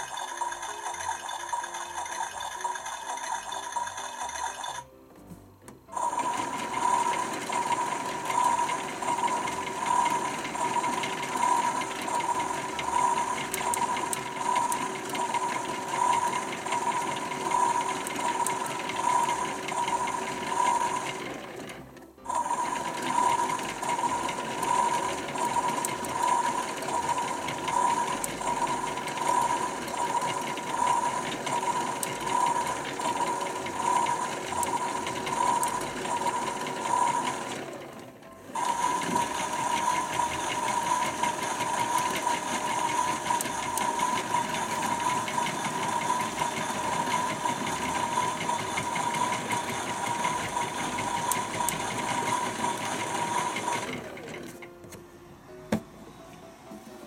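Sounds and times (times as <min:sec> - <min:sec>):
toy washing machine motor whirring: 0:00.0 - 0:04.9, 0:05.9 - 0:54.8.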